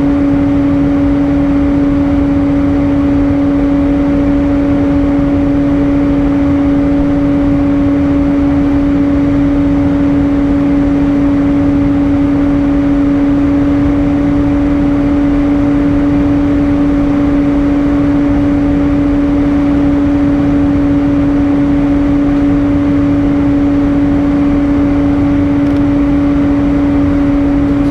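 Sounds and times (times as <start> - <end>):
airplane cabin engine and airflow noise: 0.0 - 27.9
constant low hum: 0.0 - 27.9
faint higher hum: 0.0 - 27.9.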